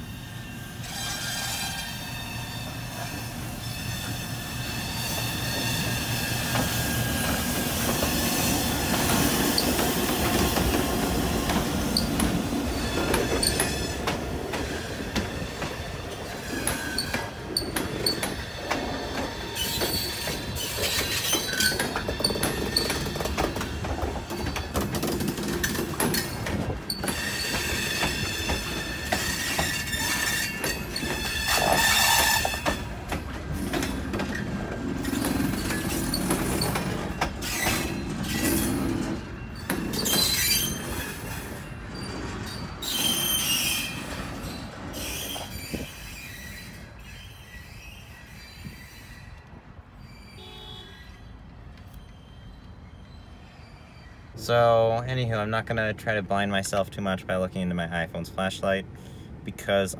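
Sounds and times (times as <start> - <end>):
train wheels squealing on rails: 0.0 - 54.9.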